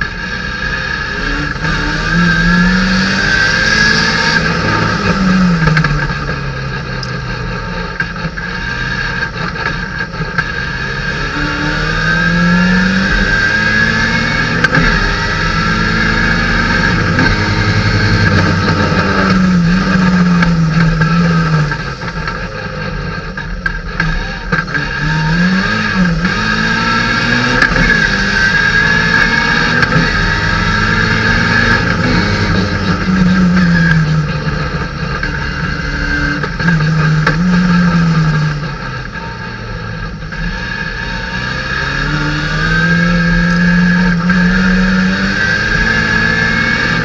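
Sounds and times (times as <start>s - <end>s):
race car engine accelerating: 0.0s - 47.0s.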